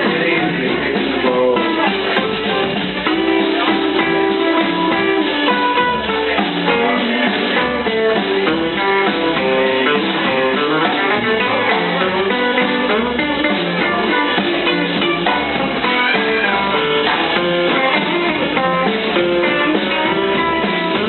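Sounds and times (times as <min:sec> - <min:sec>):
guitar: 0:00.0 - 0:21.0
swing band playing: 0:00.0 - 0:21.0.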